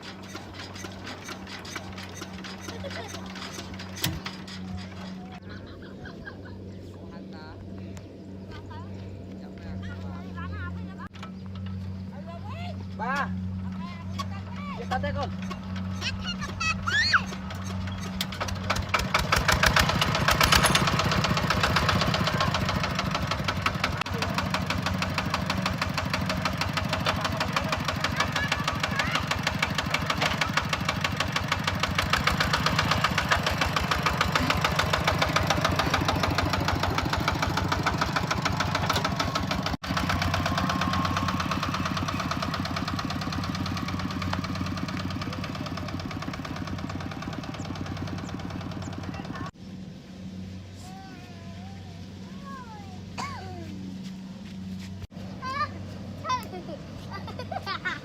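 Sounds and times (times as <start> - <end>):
harvester engine running: 0.0 - 51.0.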